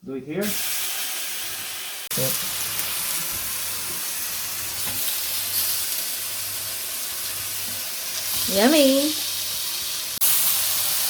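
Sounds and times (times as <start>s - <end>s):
meat sizzling in a skillet: 0.4s - 11.0s.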